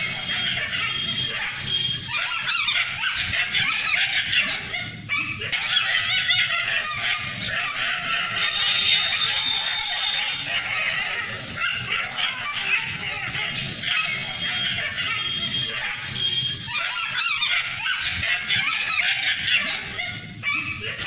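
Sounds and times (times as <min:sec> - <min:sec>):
dogs yelping and barking: 0:00.0 - 0:21.0.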